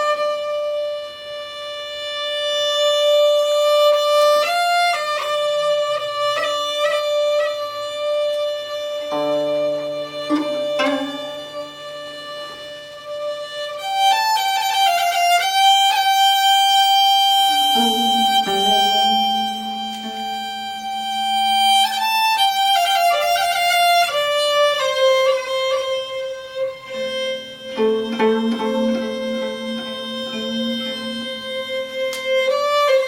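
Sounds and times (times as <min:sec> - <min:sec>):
bowed string instrument: 0:00.0 - 0:33.0.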